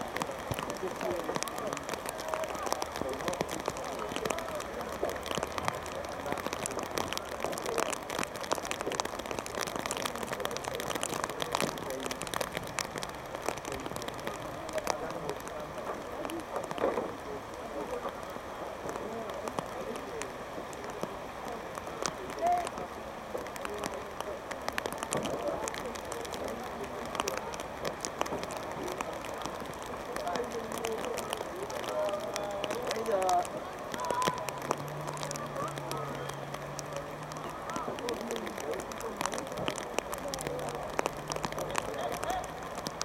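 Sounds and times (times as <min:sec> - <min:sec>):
rain patter: 0:00.0 - 0:43.0.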